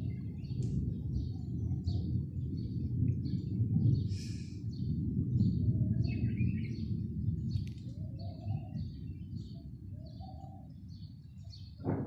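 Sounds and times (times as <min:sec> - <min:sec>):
low rumble of thunder: 0:00.0 - 0:12.0
small birds chirping: 0:00.0 - 0:12.0.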